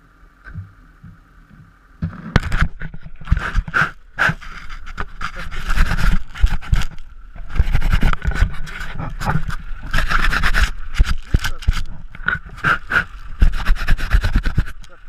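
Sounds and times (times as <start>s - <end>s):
hand rubbing against camera: 2.2s - 15.0s.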